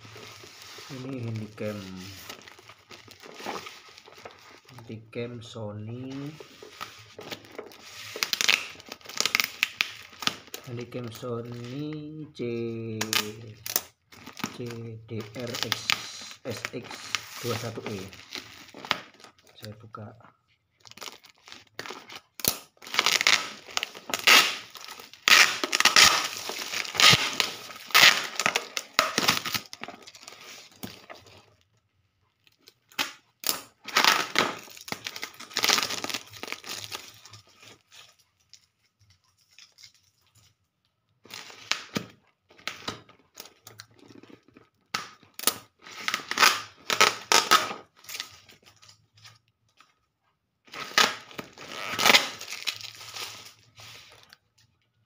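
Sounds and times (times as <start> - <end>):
plastic wrapping crinkling: 0.0 - 55.0.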